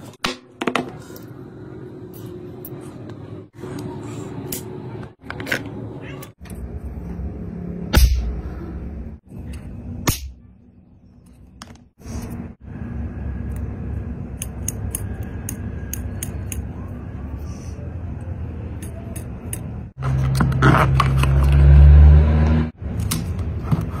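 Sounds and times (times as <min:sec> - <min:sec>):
low hum: 0:01.0 - 0:23.4.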